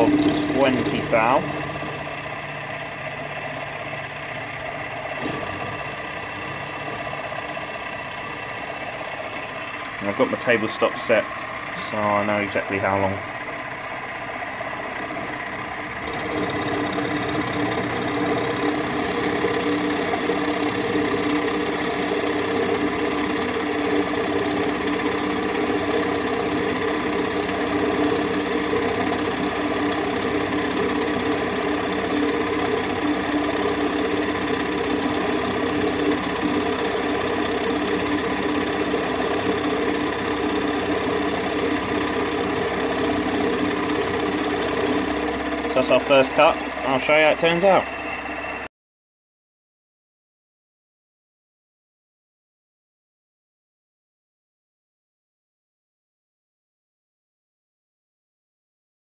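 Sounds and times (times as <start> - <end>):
milling machine cutting metal: 0.0 - 48.7.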